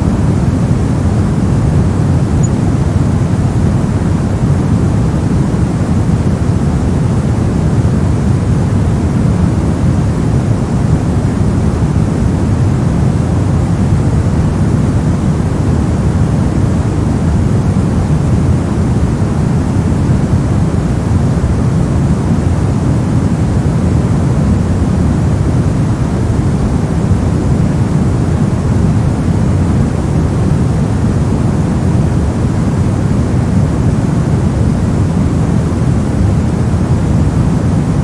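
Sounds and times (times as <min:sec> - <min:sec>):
deep white noise hiss: 0:00.0 - 0:38.0.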